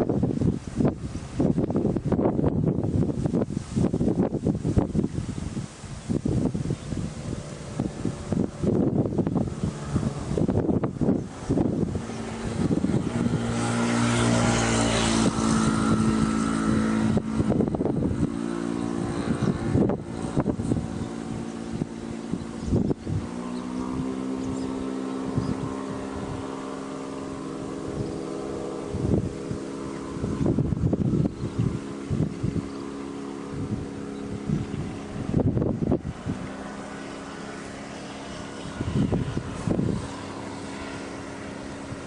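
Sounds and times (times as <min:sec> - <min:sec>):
vehicle engine hum: 0:00.0 - 0:42.0
wind buffeting microphone: 0:00.0 - 0:42.0.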